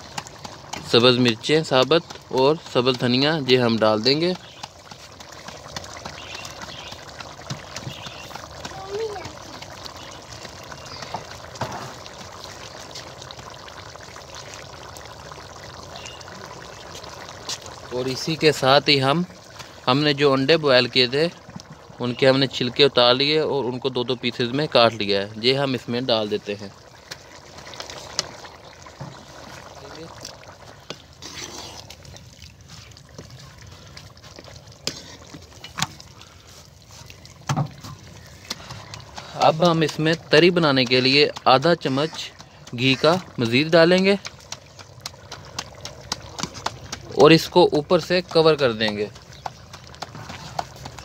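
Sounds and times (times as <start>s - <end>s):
curry bubbling in a pot: 0.0s - 51.0s.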